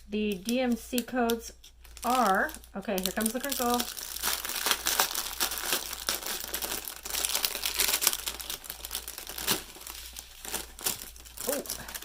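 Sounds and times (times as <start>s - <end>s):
crinkly plastic packaging crackling: 0.0s - 12.0s.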